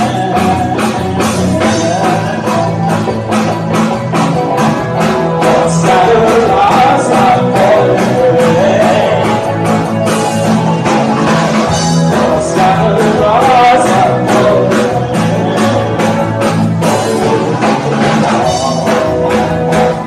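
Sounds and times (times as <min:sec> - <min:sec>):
male lead vocal singing: 0:00.0 - 0:03.4, 0:05.0 - 0:09.8, 0:11.2 - 0:20.0
bass guitar: 0:00.0 - 0:20.0
drum kit beat: 0:00.0 - 0:20.0
electric guitars: 0:00.0 - 0:20.0.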